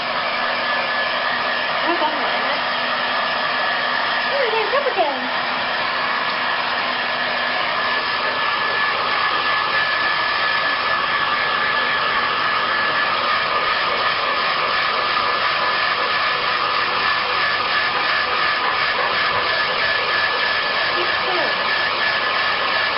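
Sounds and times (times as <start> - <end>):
hair dryer running: 0.0 - 22.9.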